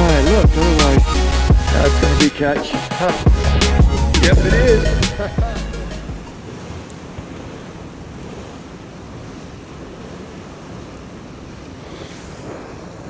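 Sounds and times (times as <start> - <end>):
water rushing: 0.0 - 13.0
wind buffeting microphone: 1.5 - 13.0.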